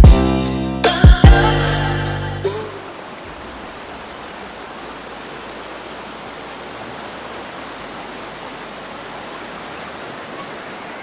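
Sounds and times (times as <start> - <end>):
stream water rushing over rocks: 1.9 - 11.0.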